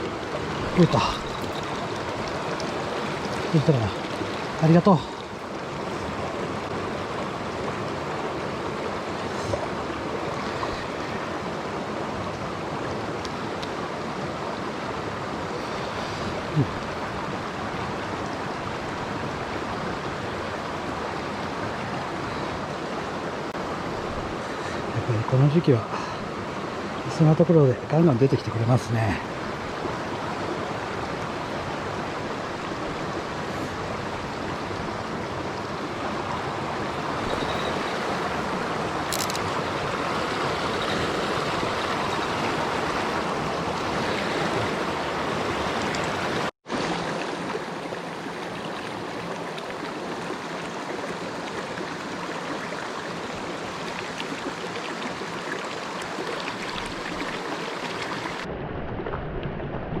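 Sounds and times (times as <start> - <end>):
stream water rushing over rocks: 0.0 - 59.3.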